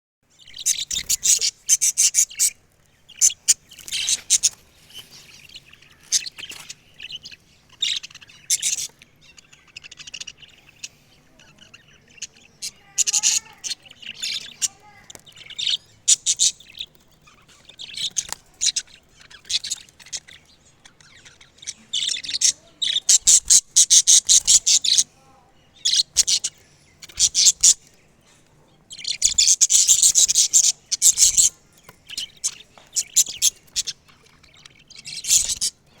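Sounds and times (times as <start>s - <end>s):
parrot chirping: 0.4s - 25.1s, 25.8s - 27.9s, 28.9s - 35.9s.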